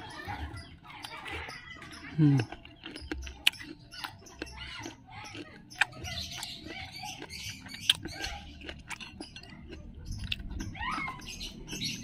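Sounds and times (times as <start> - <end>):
chewing and lip smacks: 0.0 - 12.0.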